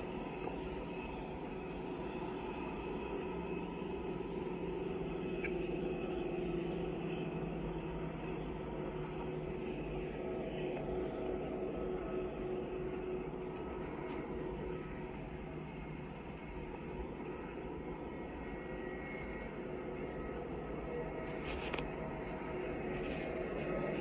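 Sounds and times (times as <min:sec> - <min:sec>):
engine drone: 0:00.0 - 0:24.0
faint hum: 0:00.0 - 0:24.0.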